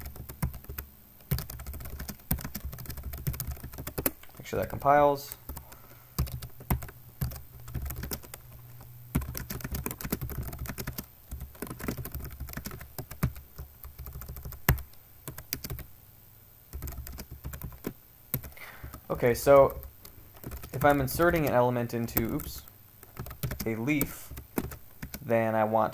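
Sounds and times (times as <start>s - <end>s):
keyboard typing: 0.0s - 15.9s, 16.7s - 25.2s.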